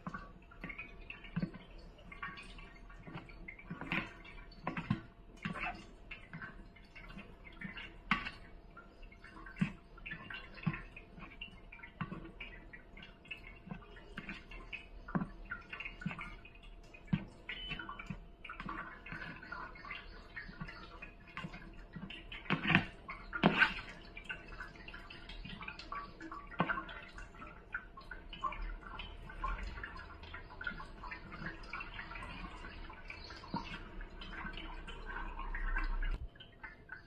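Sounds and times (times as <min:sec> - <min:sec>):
spoon stirring thick wet batter: 0:00.1 - 0:36.2.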